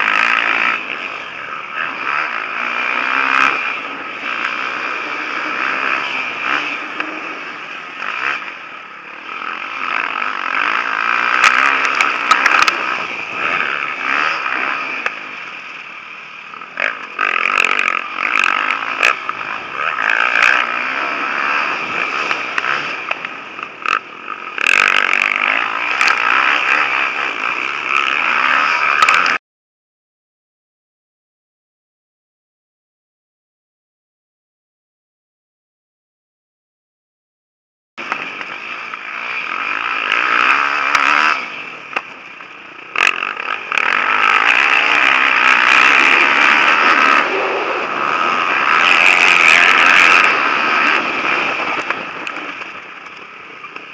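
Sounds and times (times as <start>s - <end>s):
motocross bike engines revving: 0.0s - 29.4s, 38.0s - 53.9s.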